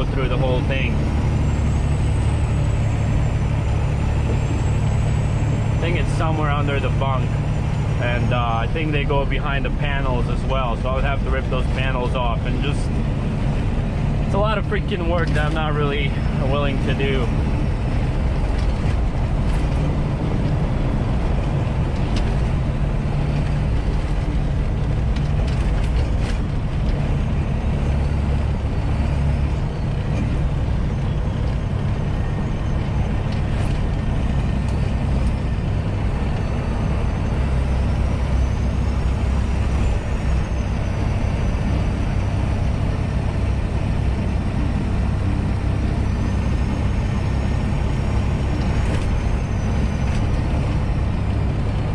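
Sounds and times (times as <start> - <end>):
road noise: 0.0 - 51.9
truck engine rumble: 0.0 - 51.9.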